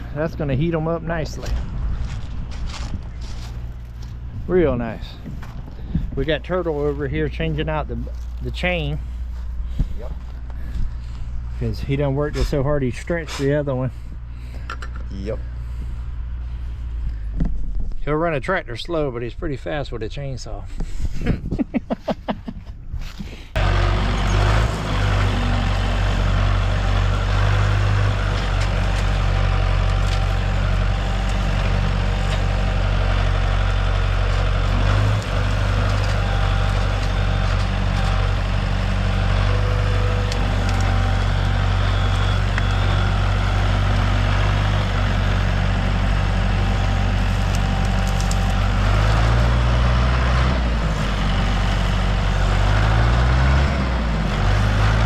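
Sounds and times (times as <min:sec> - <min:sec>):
large engine droning: 0:00.0 - 0:20.8, 0:23.5 - 0:55.0.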